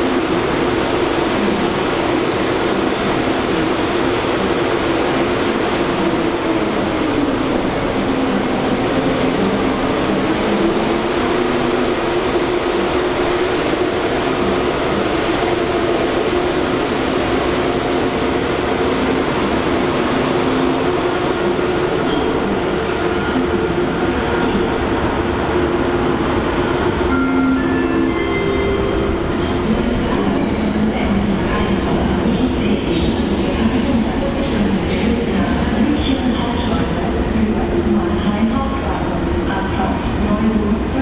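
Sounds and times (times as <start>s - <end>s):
train rumble and hum: 0.0s - 41.0s.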